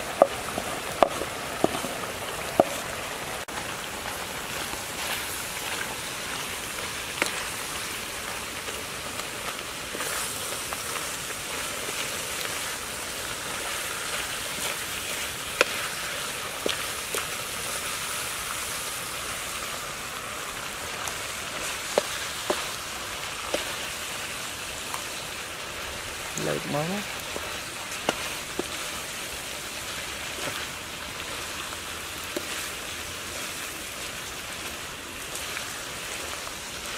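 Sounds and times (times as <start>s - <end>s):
food sizzling in a wok: 0.0s - 36.9s.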